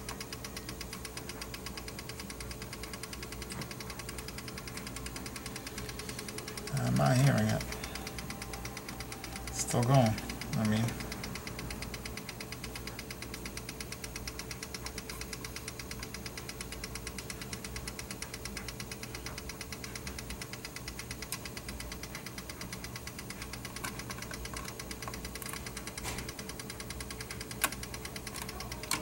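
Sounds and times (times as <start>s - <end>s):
cassette deck mechanical ticking: 0.0s - 29.0s
steady hum: 0.0s - 29.0s.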